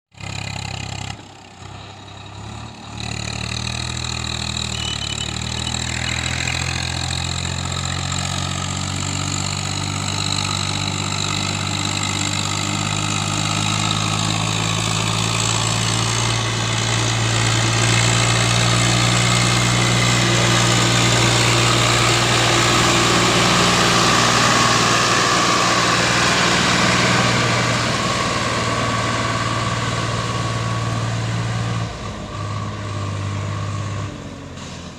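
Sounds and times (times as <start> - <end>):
diesel tractor engine under load: 0.1 - 34.9.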